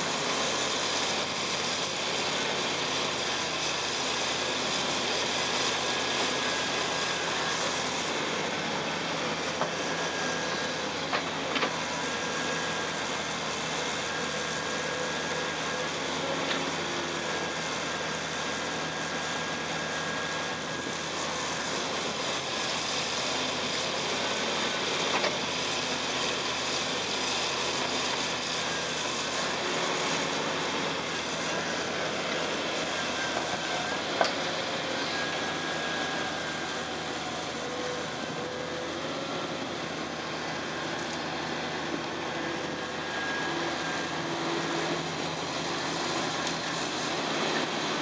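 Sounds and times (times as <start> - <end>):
dump truck engine running: 0.0 - 48.0
excavator engine and hydraulics: 0.0 - 48.0.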